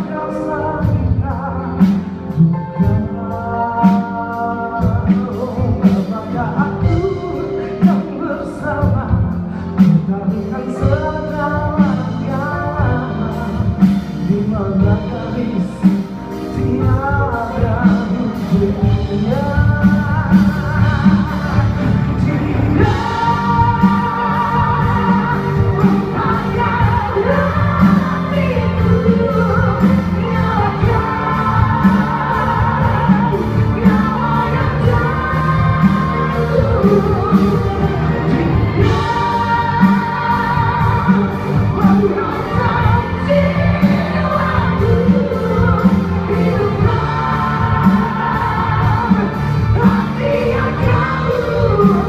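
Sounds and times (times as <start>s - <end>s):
orchestral pop ballad: 0.0s - 52.0s.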